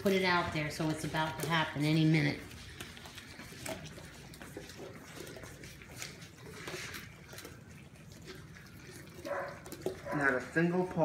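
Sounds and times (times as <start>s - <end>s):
puppies lapping wet food: 0.0s - 11.0s.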